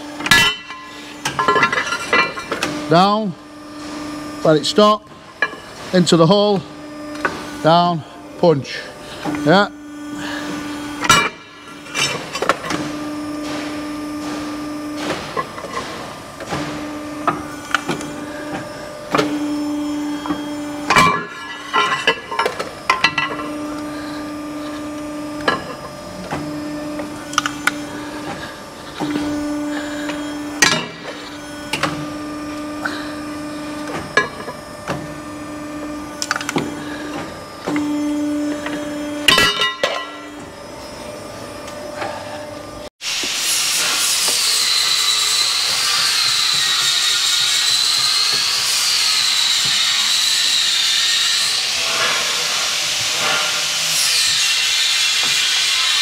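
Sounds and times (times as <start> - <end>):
hydraulic machine humming: 0.0 - 56.0.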